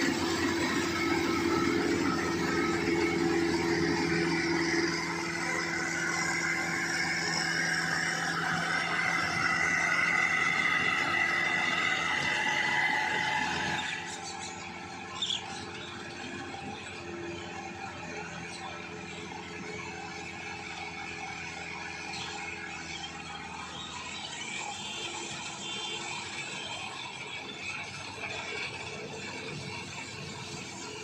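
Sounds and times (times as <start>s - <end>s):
harvesting machine humming and whining: 0.0s - 31.0s.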